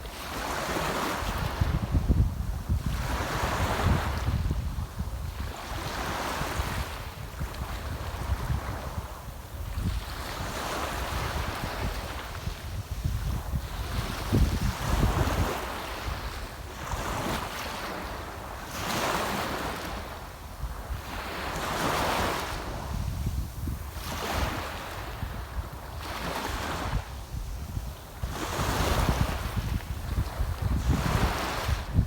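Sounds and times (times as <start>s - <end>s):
sea waves breaking on shore: 0.0s - 32.0s
wind rumble on microphone: 0.0s - 32.0s.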